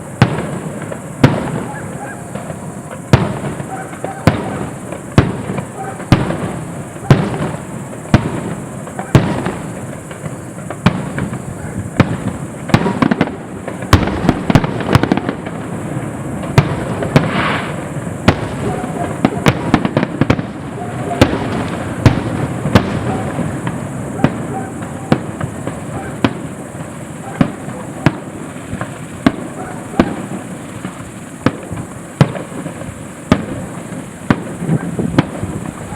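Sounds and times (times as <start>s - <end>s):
fireworks bangs: 0.0s - 35.9s
fireworks crackling hiss: 0.0s - 35.9s.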